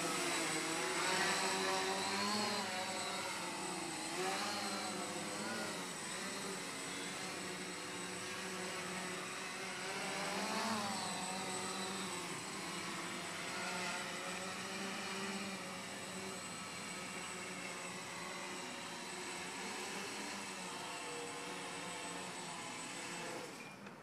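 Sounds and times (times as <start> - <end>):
drone propellers humming: 0.0 - 23.6.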